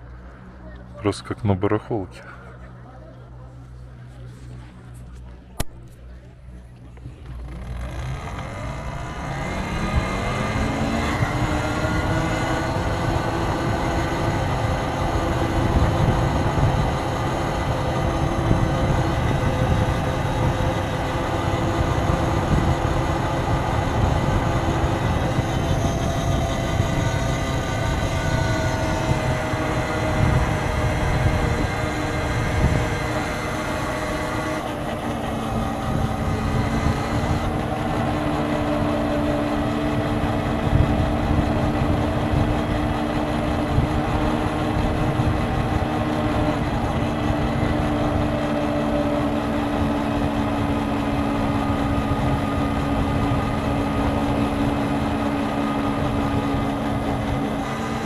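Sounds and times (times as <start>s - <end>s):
vehicle motor whine: 0.0s - 1.3s, 2.2s - 58.0s
wind rumbling on microphone: 6.2s - 58.0s.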